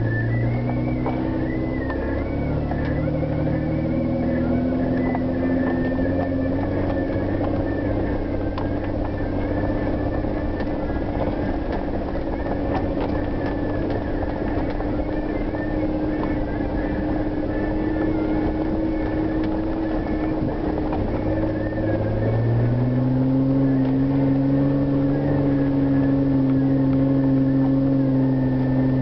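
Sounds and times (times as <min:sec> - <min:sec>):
vehicle engine running at low speed: 0:00.0 - 0:29.0.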